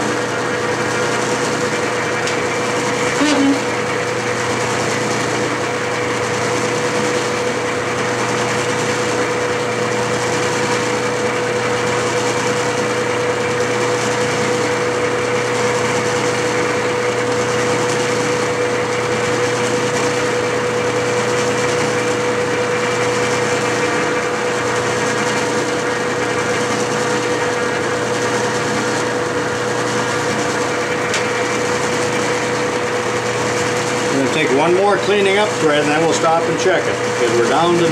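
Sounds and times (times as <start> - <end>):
metal lathe humming: 0.0 - 37.9.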